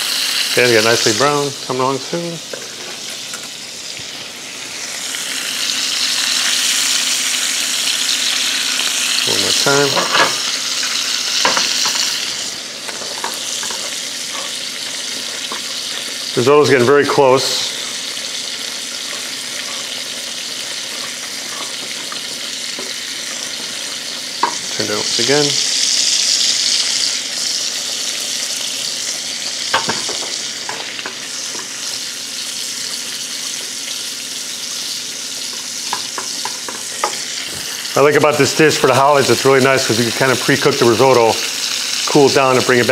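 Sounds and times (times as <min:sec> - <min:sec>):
scallops sizzling in oil: 0:00.0 - 0:42.9.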